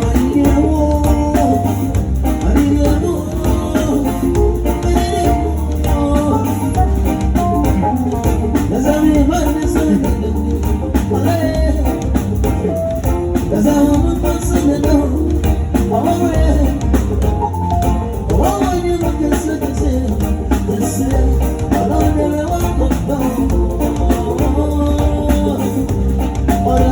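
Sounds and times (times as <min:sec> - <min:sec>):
bass beat: 0:00.0 - 0:26.9
live band playing: 0:00.0 - 0:26.9
person singing: 0:00.0 - 0:26.9.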